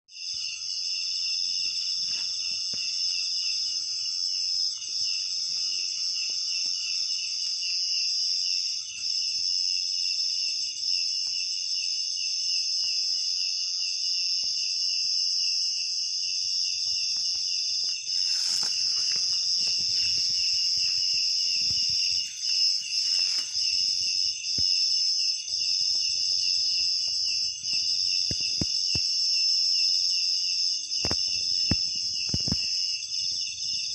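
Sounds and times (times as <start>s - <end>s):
insect pulsing trill: 0.1s - 33.9s
insects chirring: 0.1s - 33.9s.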